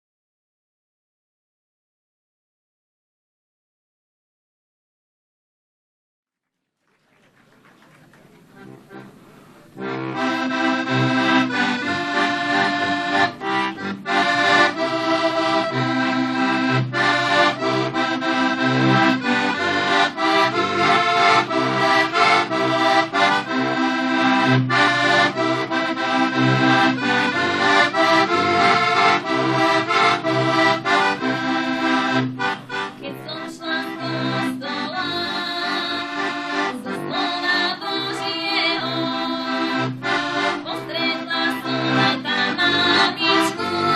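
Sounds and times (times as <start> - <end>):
button accordion playing folk tune: 8.5 - 43.9.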